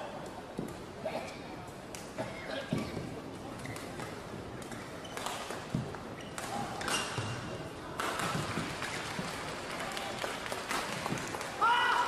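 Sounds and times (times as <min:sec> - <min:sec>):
murmur of hall: 0:00.0 - 0:12.0.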